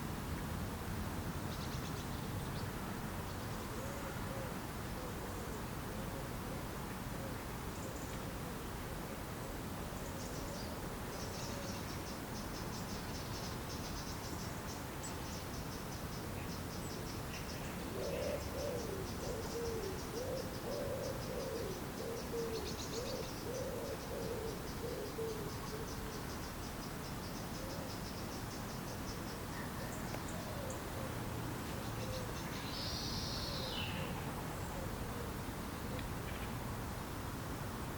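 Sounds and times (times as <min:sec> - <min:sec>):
steady low hiss: 0:00.0 - 0:37.9.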